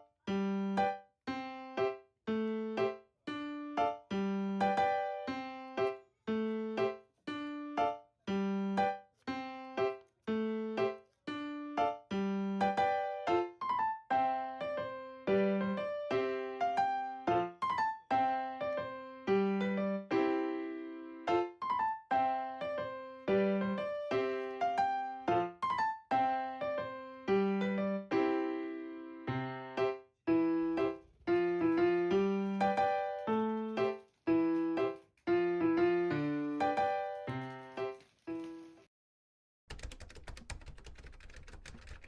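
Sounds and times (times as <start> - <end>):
light keyboard tune: 0.3 - 38.8.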